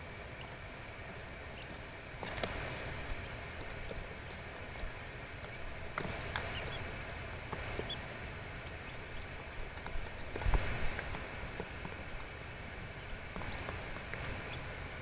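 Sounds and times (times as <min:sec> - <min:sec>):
turkey poults peeping: 0:00.0 - 0:15.0.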